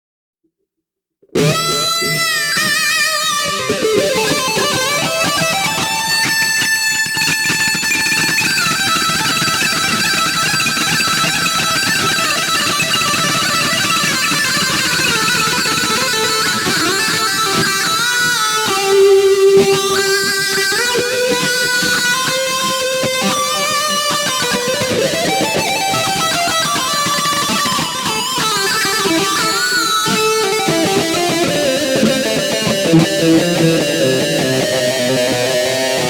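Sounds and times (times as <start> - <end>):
electric guitar with vibrato: 1.2 - 36.0.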